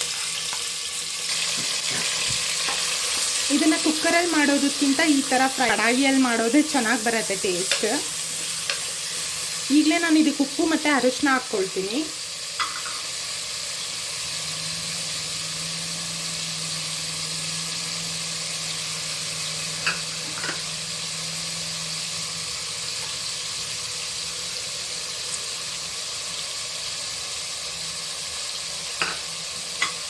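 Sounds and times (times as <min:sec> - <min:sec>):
chicken sizzling in hot oil: 0:00.0 - 0:30.0.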